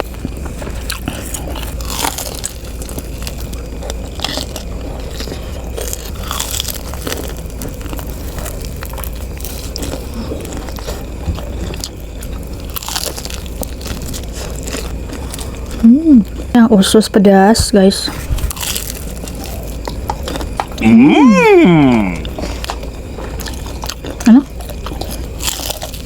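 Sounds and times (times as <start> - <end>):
biting and chewing crunchy snacks: 0.0 - 17.0, 18.1 - 26.0
steady low hum: 0.0 - 25.6.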